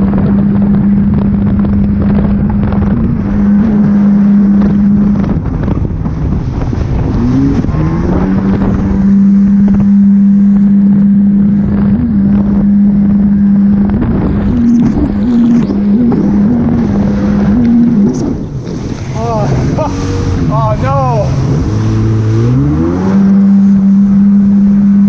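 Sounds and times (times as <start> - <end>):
jet ski engine: 0.0 - 25.0
wind and water rushing: 0.0 - 25.0.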